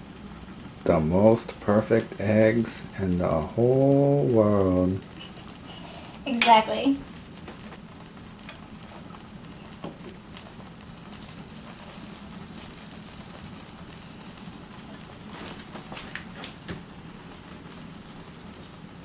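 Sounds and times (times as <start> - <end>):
eggs sizzling in a pan: 0.0 - 19.0.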